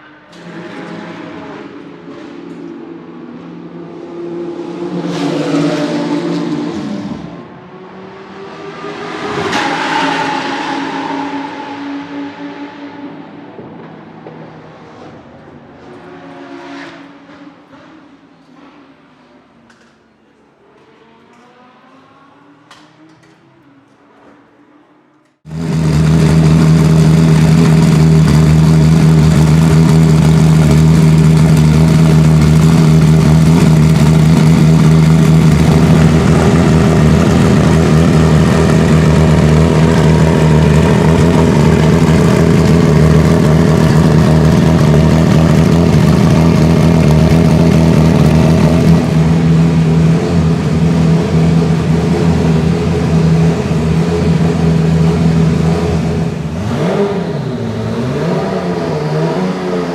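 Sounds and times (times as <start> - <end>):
loud race car engine running: 0.0 - 17.9, 25.5 - 59.9.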